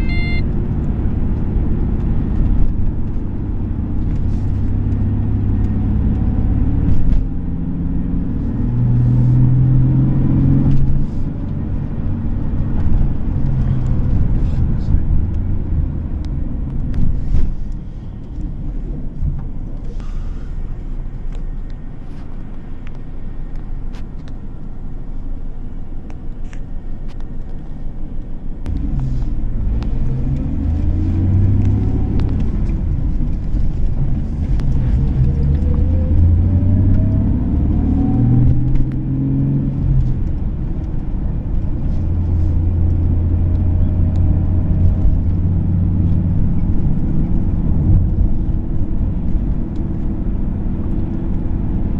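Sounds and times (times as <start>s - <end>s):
car engine accelerating: 0.0s - 25.4s, 28.6s - 51.9s
road rumble: 0.0s - 51.9s.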